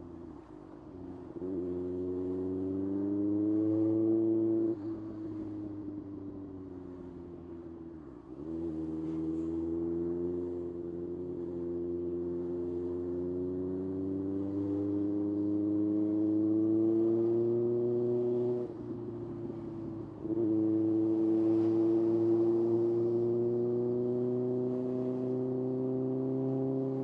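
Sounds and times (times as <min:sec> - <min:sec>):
motorcycle engine revving: 0:01.4 - 0:05.5, 0:08.4 - 0:18.7, 0:19.4 - 0:27.0.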